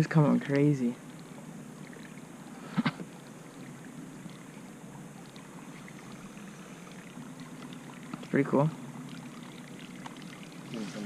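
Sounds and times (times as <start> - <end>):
fishing boat engine noise: 0.0 - 11.0.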